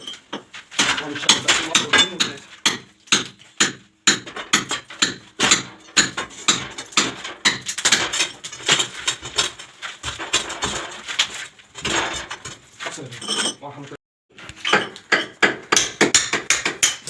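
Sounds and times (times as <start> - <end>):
hammer chipping plaster: 0.3 - 12.6, 14.6 - 17.0.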